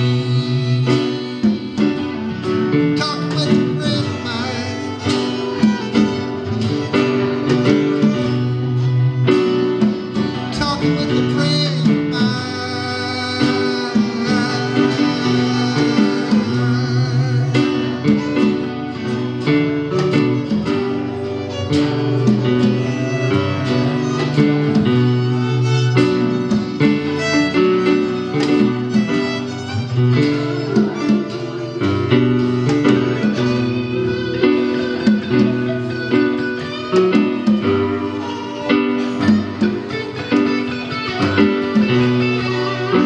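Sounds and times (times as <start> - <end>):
acoustic guitar: 0.0 - 43.0
bass line: 0.0 - 43.0.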